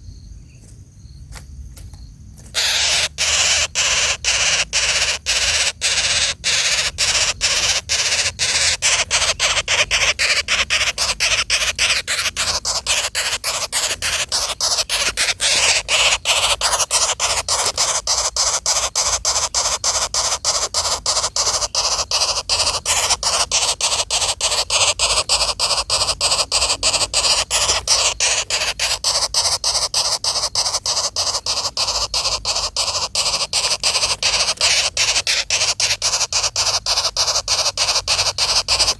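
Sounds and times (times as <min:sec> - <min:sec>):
woodpecker nestlings begging: 0:01.8 - 0:38.9.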